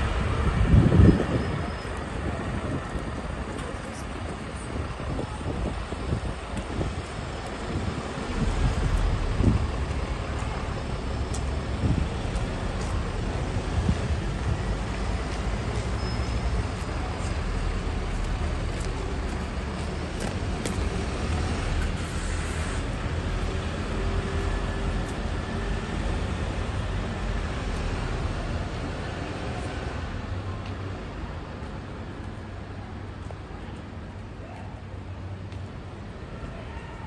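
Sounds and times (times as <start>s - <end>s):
bus engine rumble: 0.0s - 37.0s
street traffic noise: 0.0s - 37.0s.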